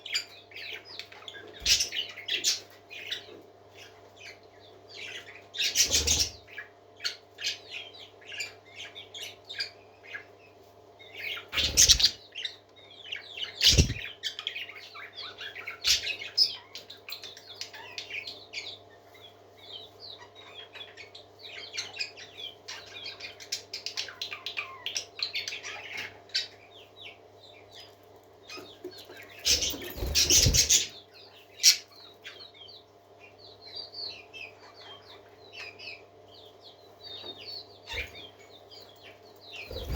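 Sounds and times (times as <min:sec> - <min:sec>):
parakeets chirping and chattering: 0:00.0 - 0:39.9.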